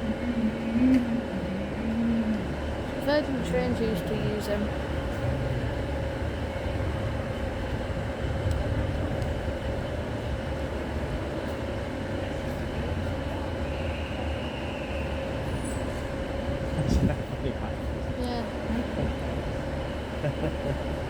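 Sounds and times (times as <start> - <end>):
train rumbling: 0.0 - 21.0
train whine: 0.0 - 21.0.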